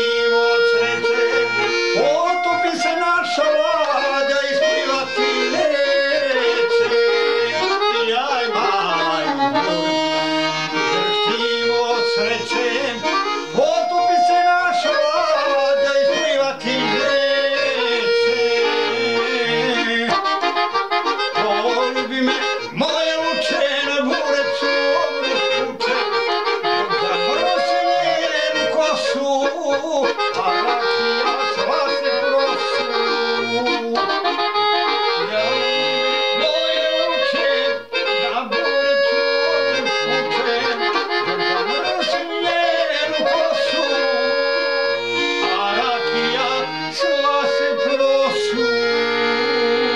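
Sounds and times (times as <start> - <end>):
accordion playing folk tune: 0.0 - 49.9.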